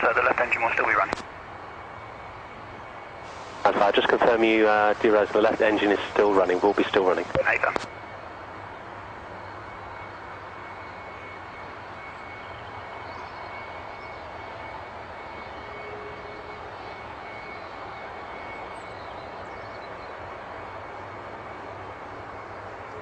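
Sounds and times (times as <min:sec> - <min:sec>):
jet engine air rush: 0:00.0 - 0:19.5
high jet engine whine: 0:00.0 - 0:23.0.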